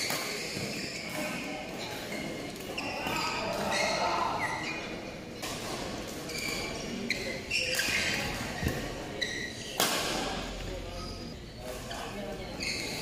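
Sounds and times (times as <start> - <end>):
players' voices: 0.0 - 13.0
shoes squeaking on court: 0.0 - 13.0.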